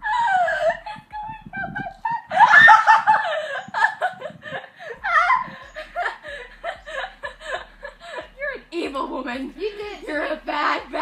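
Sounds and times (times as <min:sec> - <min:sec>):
girls laughing: 0:00.0 - 0:11.0.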